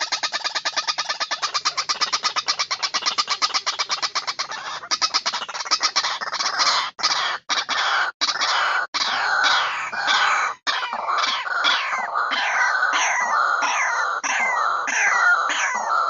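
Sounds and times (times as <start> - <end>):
bird calling repeated notes: 0.0 - 16.0.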